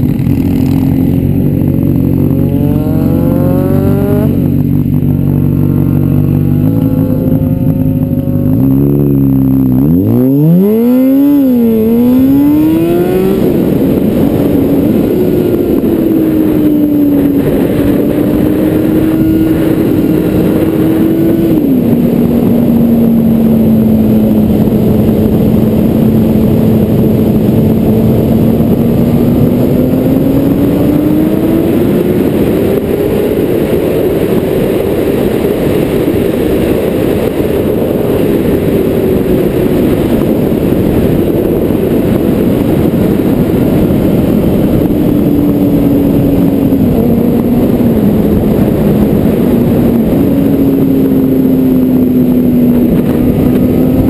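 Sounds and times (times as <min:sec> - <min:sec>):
car engine running: 0:00.0 - 0:54.0
road and wind noise: 0:00.0 - 0:54.0.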